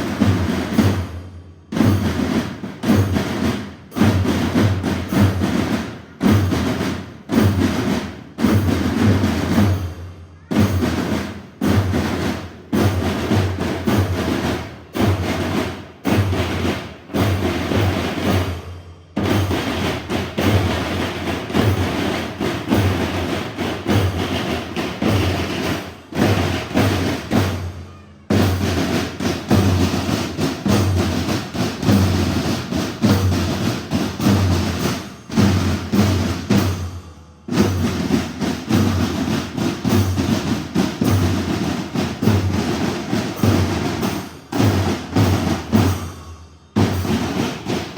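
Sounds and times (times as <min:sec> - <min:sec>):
snare drum strokes: 0:00.0 - 0:47.9.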